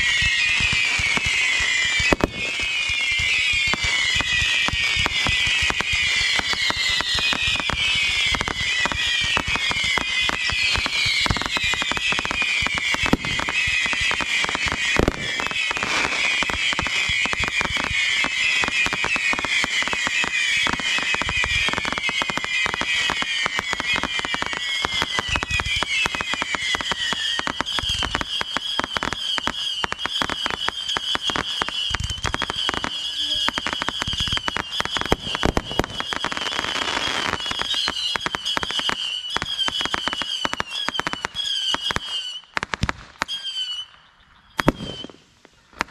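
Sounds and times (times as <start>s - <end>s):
steady high whistle: 0.0s - 42.6s, 43.2s - 45.2s
fireworks crackling: 0.0s - 44.0s, 44.6s - 45.9s
fireworks falling whistles: 0.0s - 45.9s.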